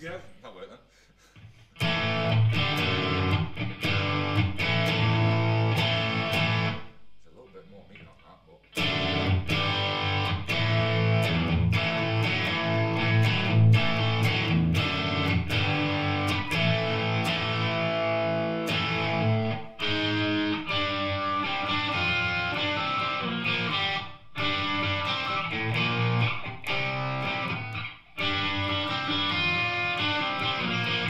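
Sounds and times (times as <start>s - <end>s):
distorted electric guitar riffs: 1.8s - 7.0s, 8.6s - 31.0s.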